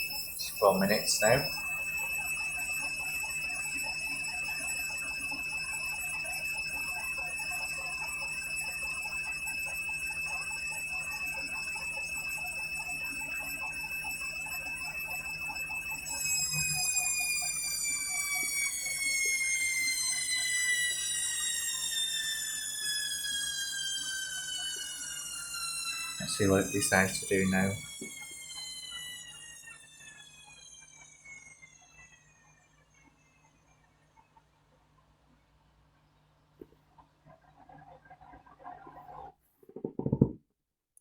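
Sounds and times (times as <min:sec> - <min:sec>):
washing machine spin whine: 0:00.0 - 0:40.3.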